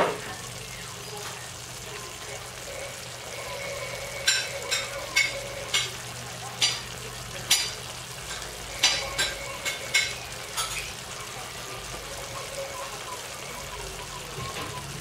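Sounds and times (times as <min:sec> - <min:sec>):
meat sizzling in sauce: 0:00.0 - 0:15.0.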